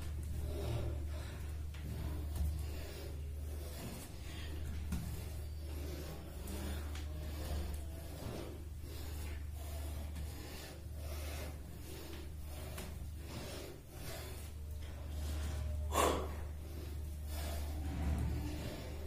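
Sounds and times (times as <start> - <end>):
man breathing hard: 0.0 - 19.0.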